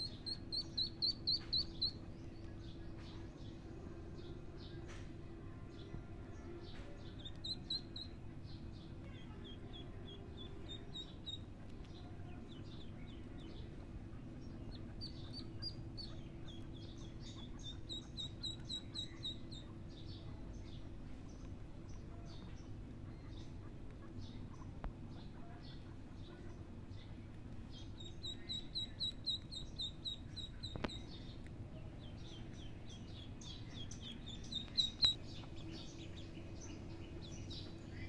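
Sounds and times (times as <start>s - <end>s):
ducklings peeping: 0.0s - 38.0s
steady low hum: 0.0s - 38.0s.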